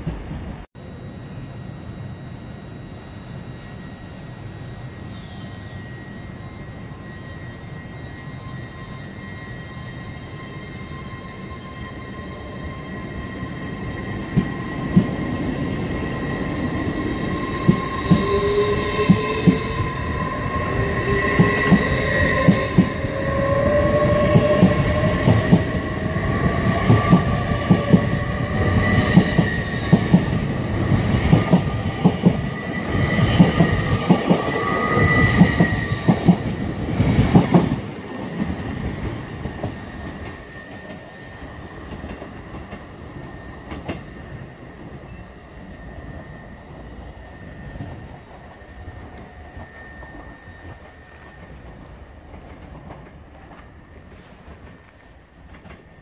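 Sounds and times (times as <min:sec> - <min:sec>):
train motors whining: 0:00.8 - 0:55.8.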